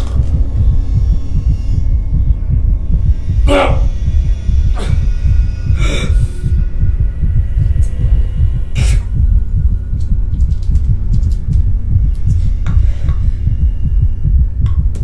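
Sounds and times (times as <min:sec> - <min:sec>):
low throbbing rumble: 0:00.0 - 0:15.0.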